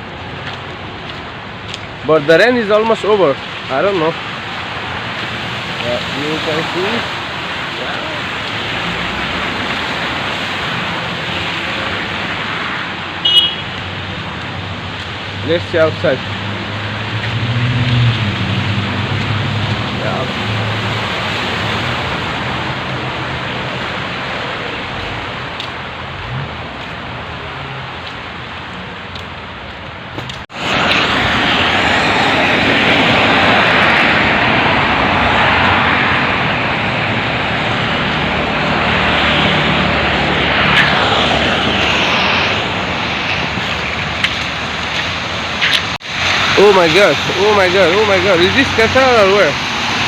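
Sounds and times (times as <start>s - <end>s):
cars driving on wet road: 0.0s - 50.0s
heavy rain: 0.0s - 50.0s.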